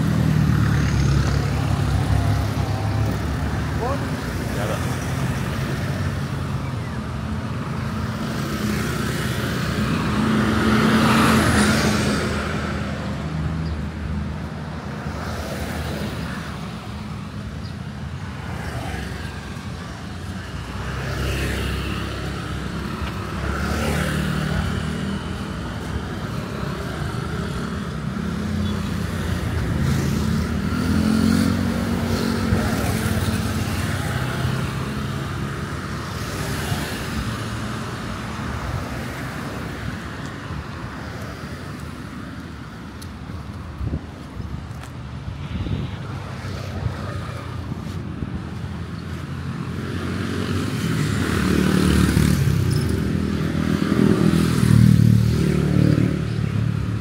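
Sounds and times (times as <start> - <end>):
steady traffic rumble: 0.0 - 57.0
vehicles passing: 0.0 - 57.0.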